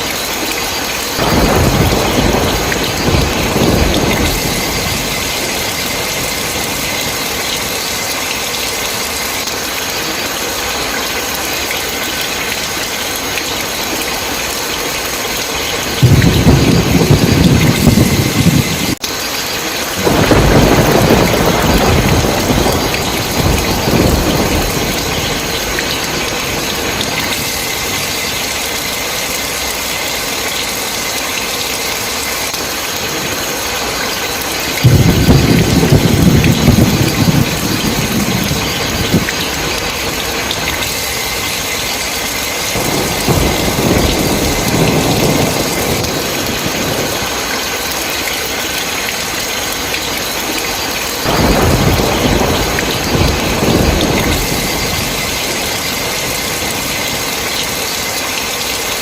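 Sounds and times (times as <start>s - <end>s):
heavy rain: 0.0s - 59.0s
thunder rumble: 0.2s - 31.8s, 32.4s - 59.0s.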